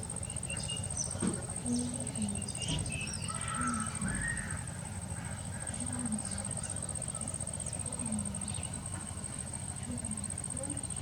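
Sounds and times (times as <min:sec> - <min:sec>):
distant voices: 0:00.0 - 0:11.0
small birds chirping: 0:00.0 - 0:11.0.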